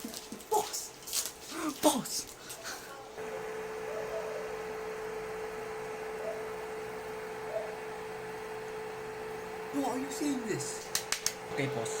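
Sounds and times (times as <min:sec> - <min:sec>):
steady mid-pitched hum: 0:02.1 - 0:12.0.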